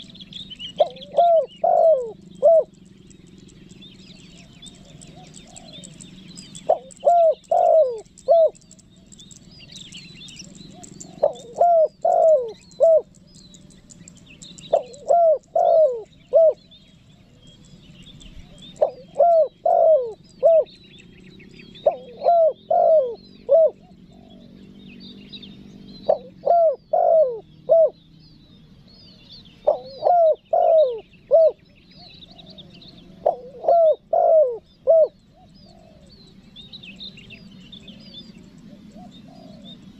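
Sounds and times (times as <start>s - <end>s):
dove cooing: 0.0s - 24.9s, 25.6s - 28.0s, 29.5s - 39.9s
small birds chirping faintly: 0.0s - 39.9s.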